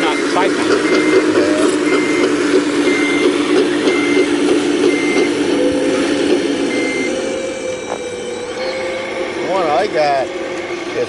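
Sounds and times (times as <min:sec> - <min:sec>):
backup alarm beeping: 0:00.0 - 0:11.0
diesel engine running: 0:00.0 - 0:11.0.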